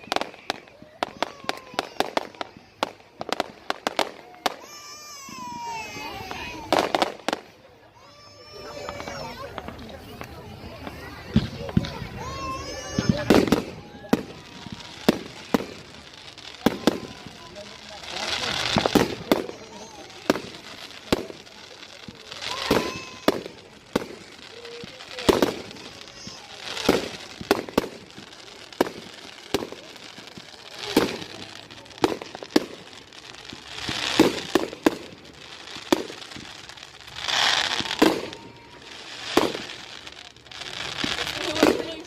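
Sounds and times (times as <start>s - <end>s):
fireworks bangs: 0.0s - 42.0s
fireworks hissing crackle: 0.0s - 42.0s.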